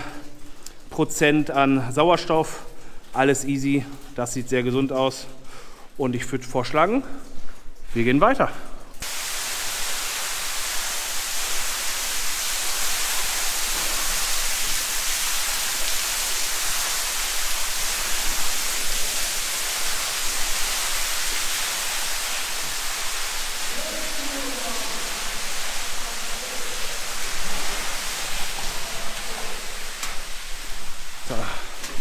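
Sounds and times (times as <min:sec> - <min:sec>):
water raining down shaft: 0:00.0 - 0:32.0.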